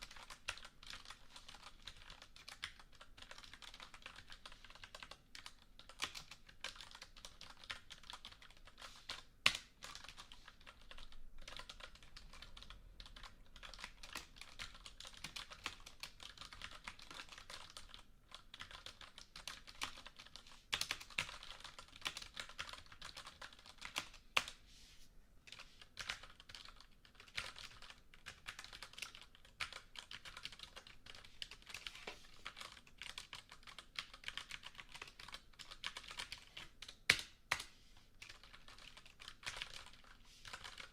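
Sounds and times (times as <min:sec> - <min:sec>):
computer keyboard typing: 0:00.0 - 0:24.6, 0:25.5 - 0:40.9.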